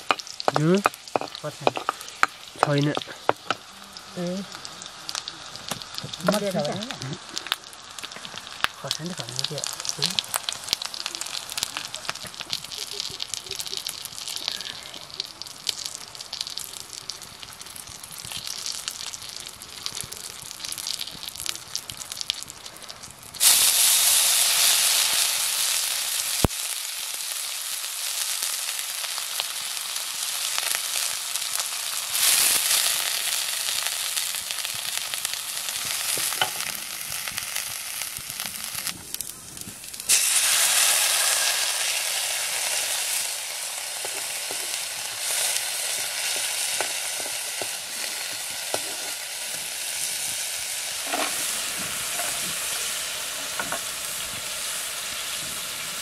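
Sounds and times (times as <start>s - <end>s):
oil sizzling in a wok: 0.0s - 56.0s.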